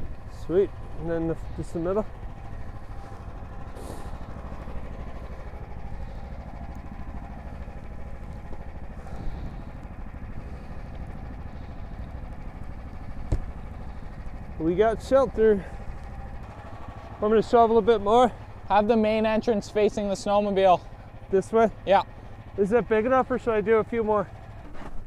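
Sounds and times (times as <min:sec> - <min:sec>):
snowmobile engine idling: 0:00.0 - 0:25.0.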